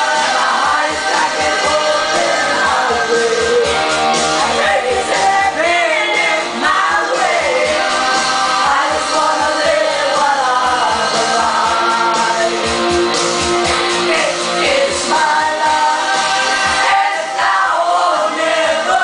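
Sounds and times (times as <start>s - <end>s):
group singing into microphones: 0.0s - 19.0s
rock backing track with drums: 0.1s - 17.0s.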